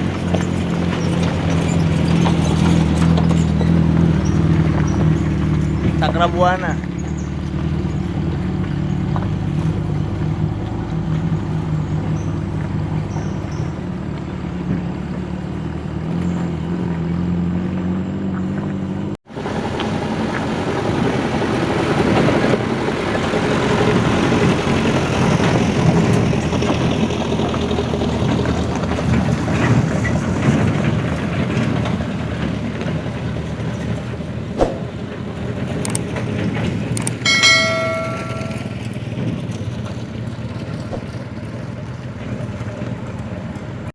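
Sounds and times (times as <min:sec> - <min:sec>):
diesel truck engine pulling hard: 0:00.0 - 0:43.9.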